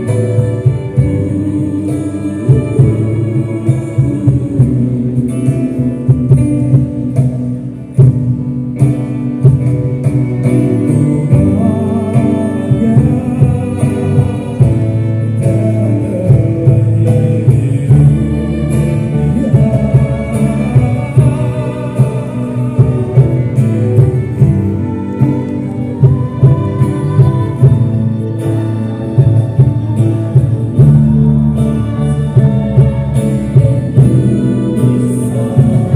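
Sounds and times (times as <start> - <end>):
live band over pa: 0.0 - 35.9.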